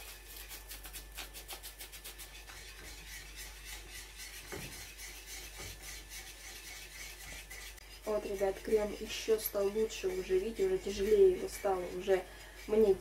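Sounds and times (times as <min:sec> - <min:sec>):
spatula scraping a glass bowl: 0:00.0 - 0:13.0.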